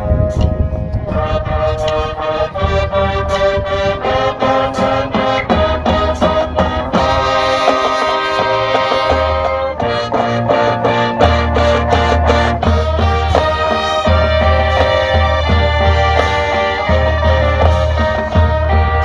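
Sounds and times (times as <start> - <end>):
drums: 0.0 - 19.0
marching band brass chords: 0.0 - 19.0.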